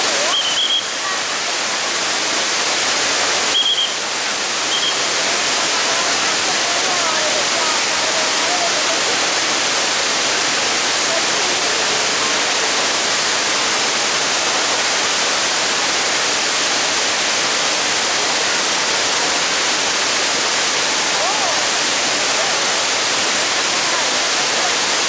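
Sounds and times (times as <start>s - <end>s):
water rushing down dam spillway: 0.0s - 25.0s.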